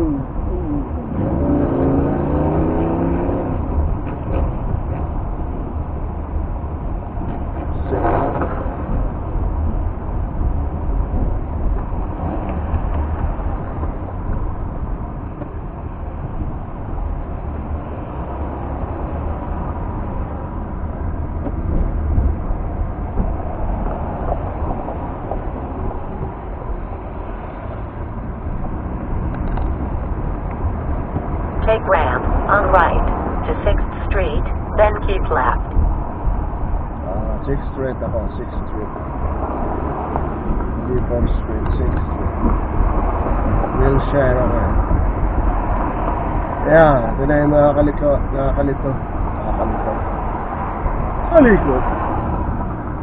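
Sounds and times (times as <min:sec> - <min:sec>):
tyres and engine rumbling: 0:00.0 - 0:53.0.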